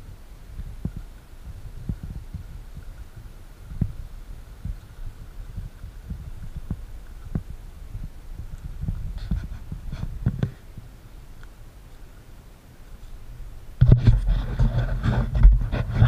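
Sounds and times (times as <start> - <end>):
microphone handling noise: 0.0 - 11.0, 13.8 - 16.0
wind rumble on microphone: 0.0 - 16.0.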